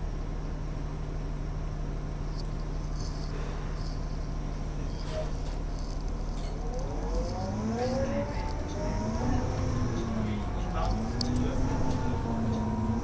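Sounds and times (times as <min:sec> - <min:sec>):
bus drivetrain hum: 0:00.0 - 0:13.0
rattles and ticks from bus body: 0:00.0 - 0:13.0
squeaky rising tones: 0:02.4 - 0:13.0.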